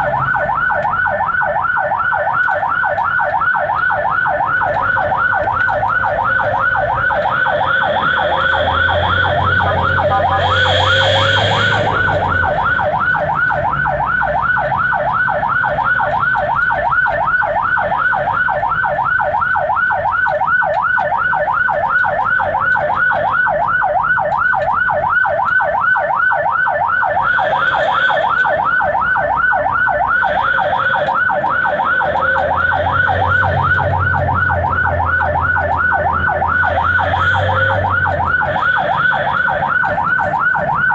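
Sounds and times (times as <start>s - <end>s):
ambulance siren yelping: 0.0s - 40.9s.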